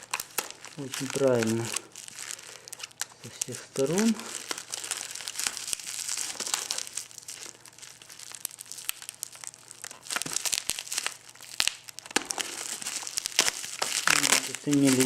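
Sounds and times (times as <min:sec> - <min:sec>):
packaging tearing: 0:00.0 - 0:15.0
plastic packaging crinkling: 0:00.0 - 0:15.0.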